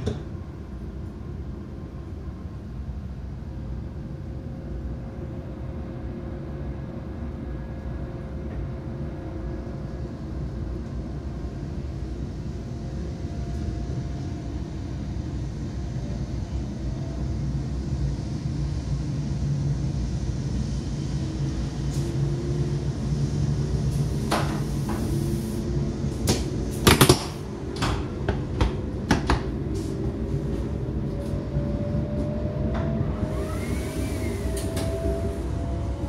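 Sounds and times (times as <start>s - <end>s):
train rumble with rising whine: 0.0s - 36.0s.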